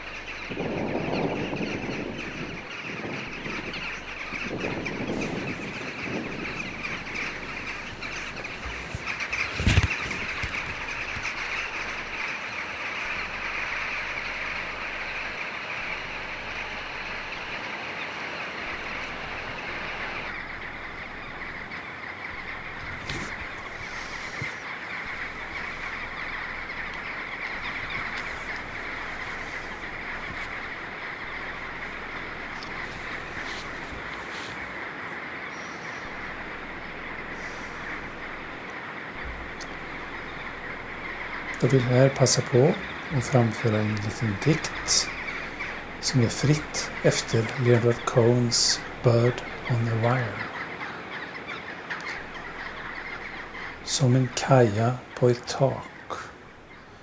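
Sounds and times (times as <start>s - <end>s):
jackdaw flock calling: 0.0s - 57.0s.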